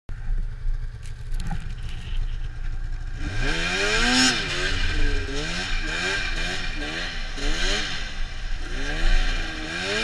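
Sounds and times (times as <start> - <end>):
snowmobile engine revving: 1.8 - 10.0.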